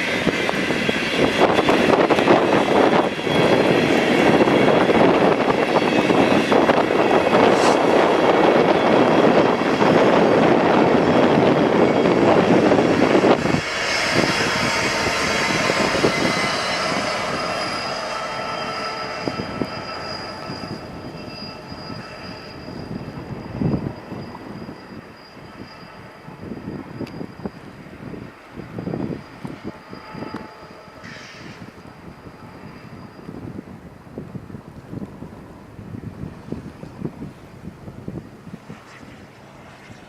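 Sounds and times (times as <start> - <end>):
high wheel squeal: 0.0 - 35.3
train cars rolling on rails: 0.0 - 40.0.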